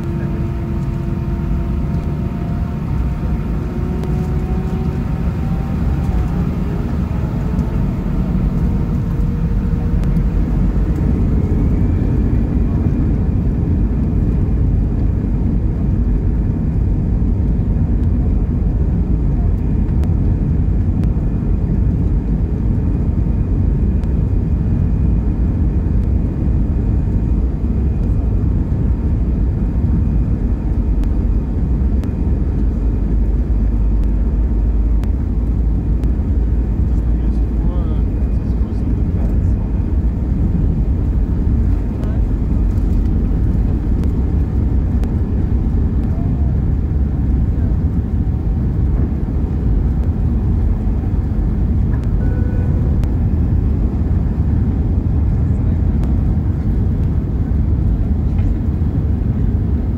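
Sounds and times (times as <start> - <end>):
faint engine whine rising: 0.0 - 59.9
jet engines and wheels rumbling: 0.0 - 59.9.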